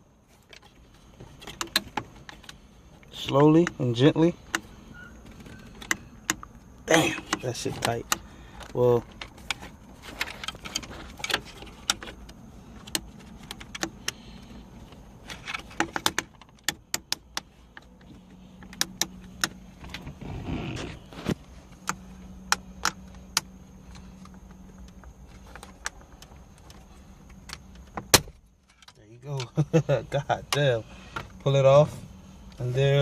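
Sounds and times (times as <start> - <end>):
plastic clips clicking and creaking: 0.5 - 28.0.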